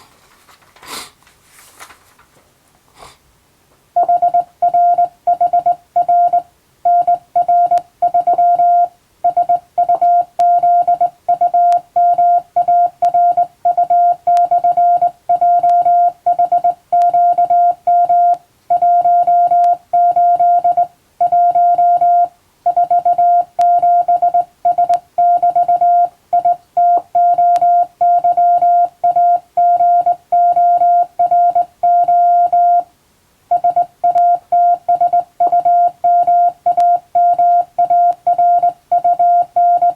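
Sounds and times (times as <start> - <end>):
morse code beeping: 4.0 - 32.9, 33.5 - 39.9.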